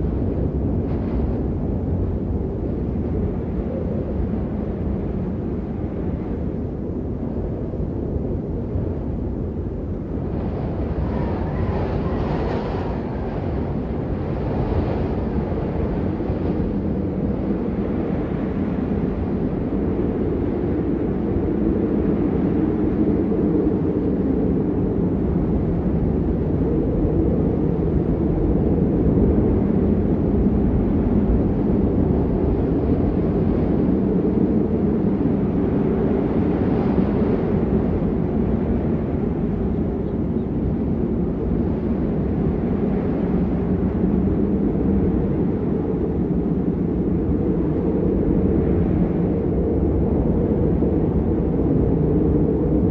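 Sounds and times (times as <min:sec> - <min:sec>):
blizzard wind howling: 0:00.0 - 0:52.9.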